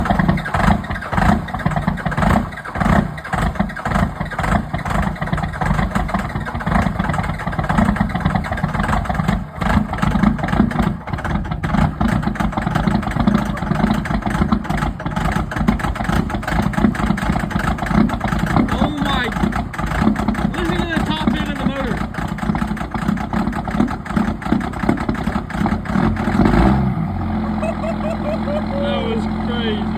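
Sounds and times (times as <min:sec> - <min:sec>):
diesel engine idling with knock: 0:00.0 - 0:29.9.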